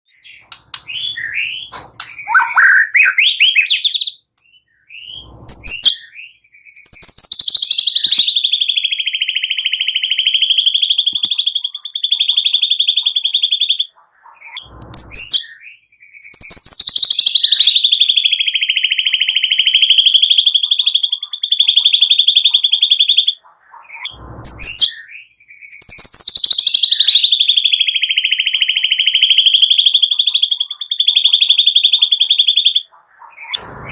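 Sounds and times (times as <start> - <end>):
songbird chirps: 0.1 - 33.9
buzzy bird trills: 0.2 - 33.9.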